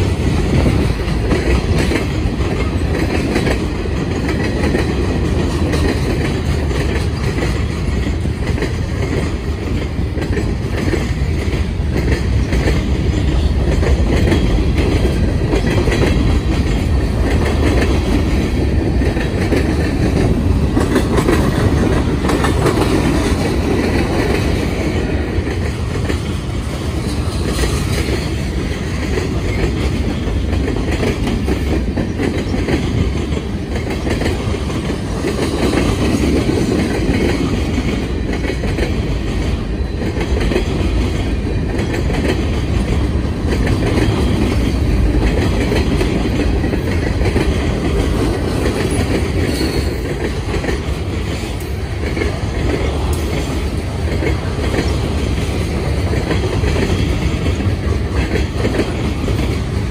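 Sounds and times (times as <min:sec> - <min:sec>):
freight train rolling past: 0:00.0 - 0:59.9
wheels clicking over rail joints: 0:00.0 - 0:59.9.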